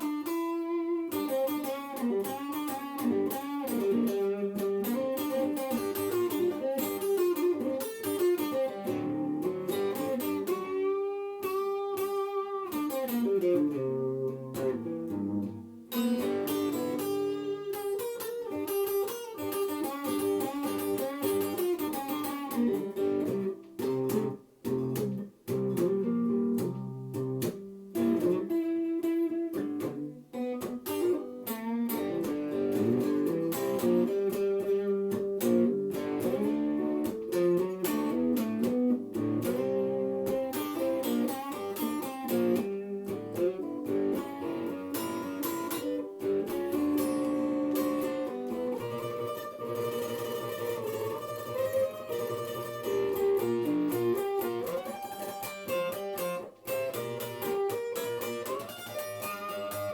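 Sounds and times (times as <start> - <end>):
blues guitar solo: 0.0 - 59.9.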